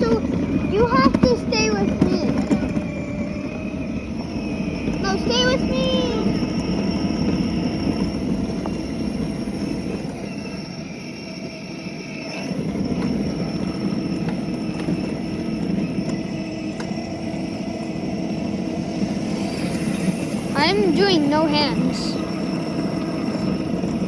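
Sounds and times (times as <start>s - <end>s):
mini bike engine running: 0.0s - 24.0s.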